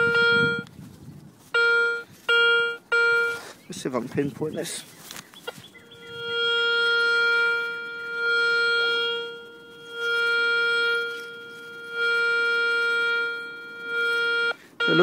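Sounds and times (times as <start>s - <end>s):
metal detector tone: 0.0s - 0.8s, 1.4s - 3.5s, 5.4s - 15.0s.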